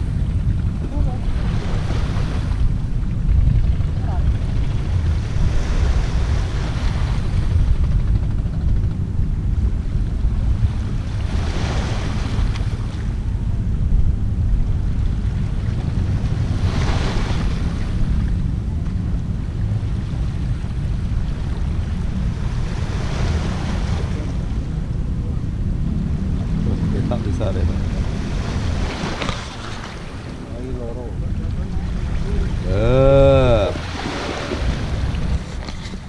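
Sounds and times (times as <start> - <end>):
wind rumble on microphone: 0.0 - 36.0
small waves washing on shore: 0.8 - 7.5, 10.3 - 13.2, 14.9 - 18.4, 19.3 - 36.0.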